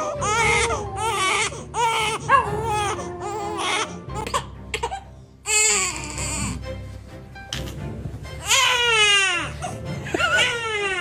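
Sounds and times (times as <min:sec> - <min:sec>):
baby crying: 0:00.0 - 0:06.6, 0:08.4 - 0:11.0
background music: 0:00.0 - 0:11.0.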